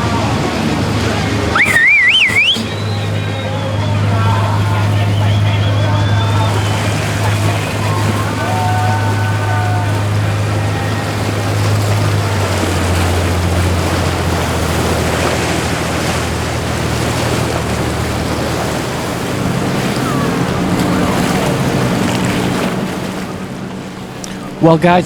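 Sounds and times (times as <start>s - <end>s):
boat engines humming: 0.0s - 25.0s
waves rushing: 0.0s - 25.0s.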